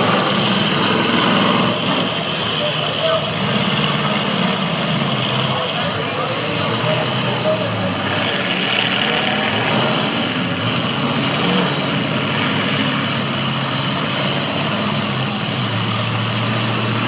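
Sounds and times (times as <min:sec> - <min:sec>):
car engines running: 0:00.0 - 0:17.0.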